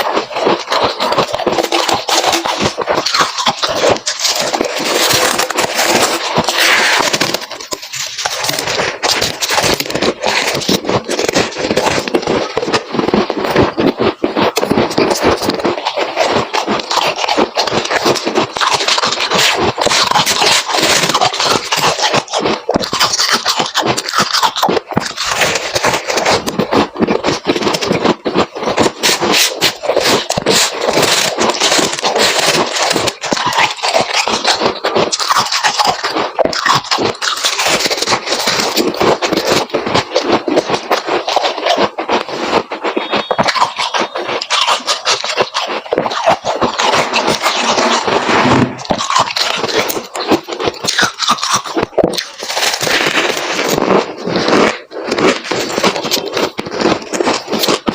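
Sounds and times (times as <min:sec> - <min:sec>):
frost crunching and scraping: 0:00.0 - 0:57.9.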